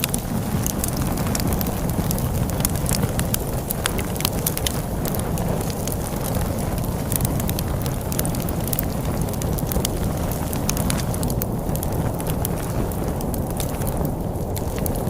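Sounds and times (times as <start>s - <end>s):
storm wind rumble: 0.0s - 15.0s
wood fire crackling and popping: 0.0s - 15.0s.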